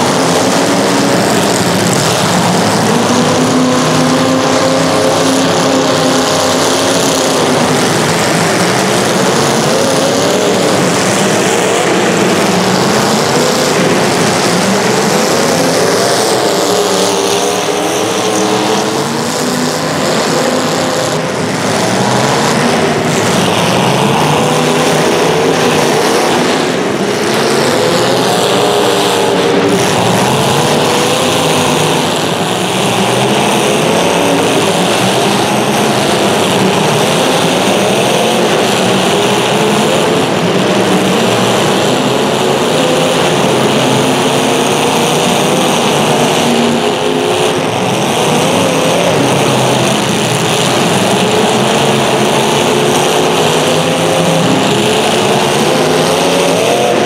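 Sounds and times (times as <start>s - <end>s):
small racing engines: 0.0s - 57.0s.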